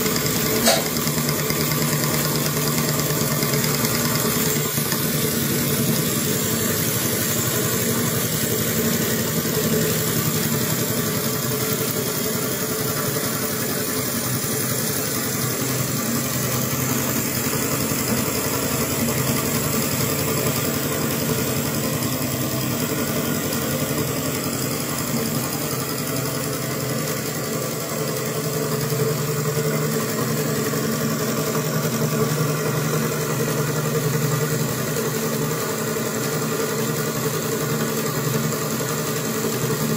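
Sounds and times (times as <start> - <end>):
model steam engine running: 0.0 - 39.9.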